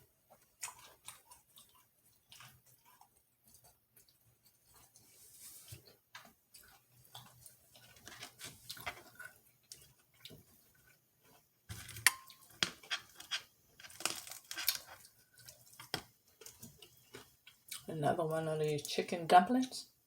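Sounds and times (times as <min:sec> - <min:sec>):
crunchy chewing: 0:00.3 - 0:17.9.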